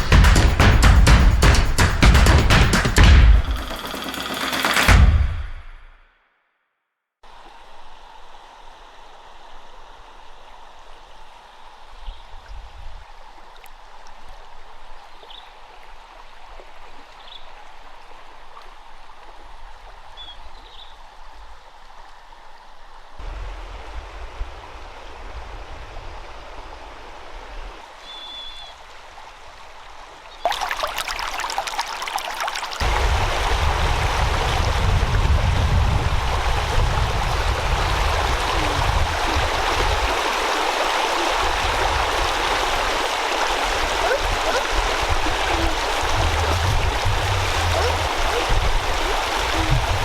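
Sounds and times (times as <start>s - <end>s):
stream of water flowing: 7.2s - 50.0s.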